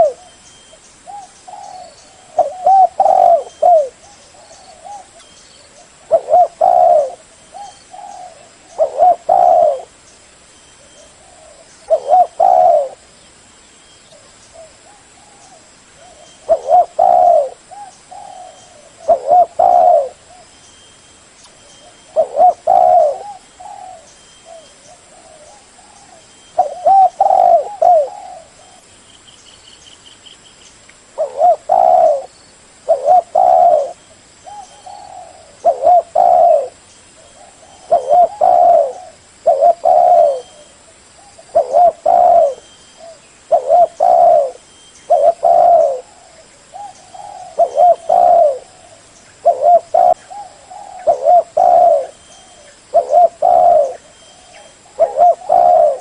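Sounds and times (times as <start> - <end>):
dove cooing: 0.0 - 0.4, 1.0 - 10.0, 10.9 - 13.1, 14.2 - 20.5, 21.6 - 28.9, 31.2 - 56.0.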